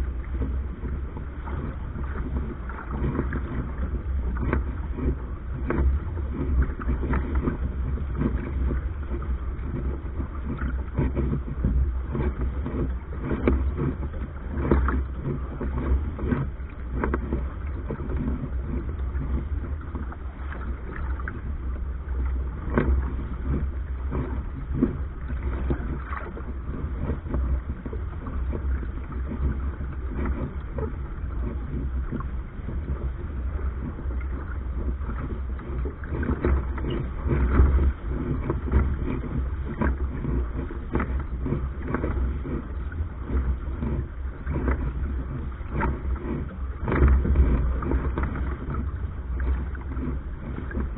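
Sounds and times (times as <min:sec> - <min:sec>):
water splashing along boat hull: 0:00.0 - 0:50.9
wind rumble on microphone: 0:00.0 - 0:50.9.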